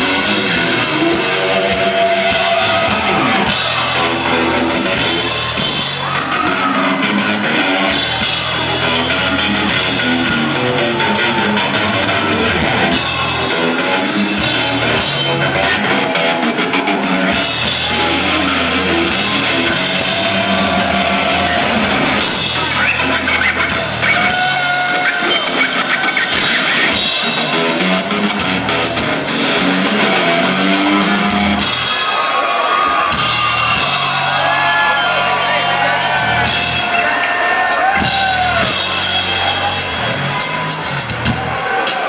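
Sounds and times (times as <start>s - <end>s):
drum kit: 0.0s - 42.0s
electric guitar: 0.0s - 42.0s.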